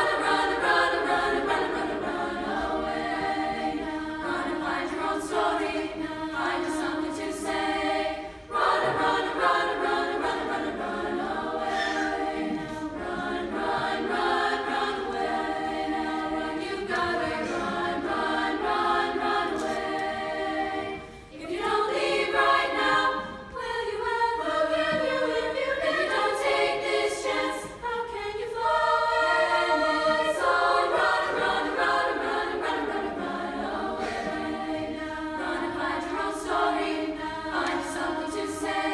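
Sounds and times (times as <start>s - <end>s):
women's choir singing: 0.0s - 38.9s.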